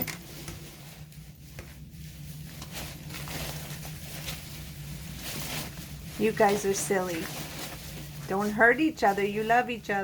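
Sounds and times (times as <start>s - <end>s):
packing peanuts rustling: 0.0s - 10.0s
steady low hum: 0.0s - 10.0s.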